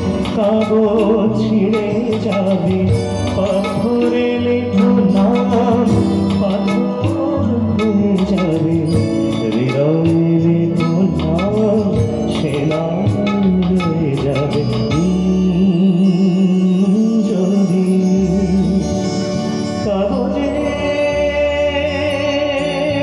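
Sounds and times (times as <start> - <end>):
band of keyboard guitar and bass: 0.0 - 23.0
man singing into a microphone: 0.0 - 23.0.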